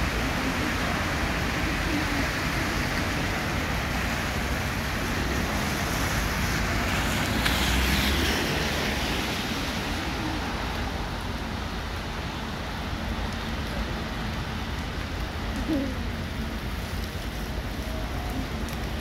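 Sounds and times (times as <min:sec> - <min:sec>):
car tyres on wet road: 0:00.0 - 0:19.0
heavy rain hissing: 0:00.0 - 0:19.0.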